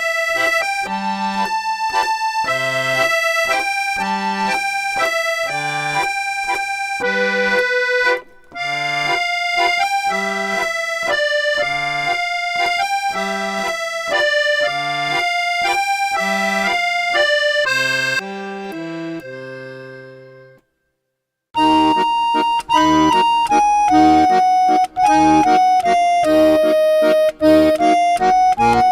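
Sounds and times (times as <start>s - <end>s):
accordion waltz music: 0.0s - 20.7s, 21.6s - 28.9s.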